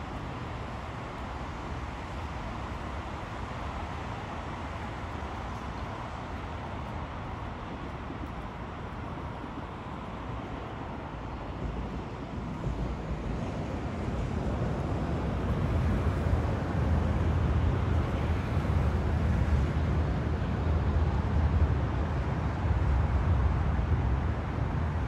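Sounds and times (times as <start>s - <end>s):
train running on viaduct: 0.0s - 25.0s.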